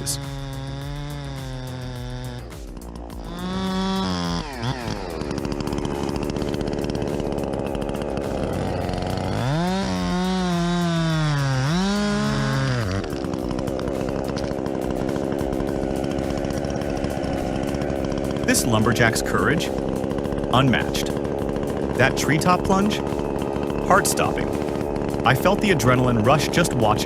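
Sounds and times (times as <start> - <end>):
chainsaw engine revving: 0.0 - 27.0.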